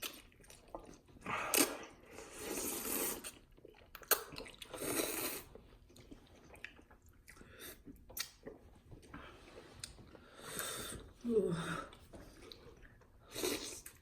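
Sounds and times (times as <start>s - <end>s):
wet chewing of noodles: 0.0s - 14.0s.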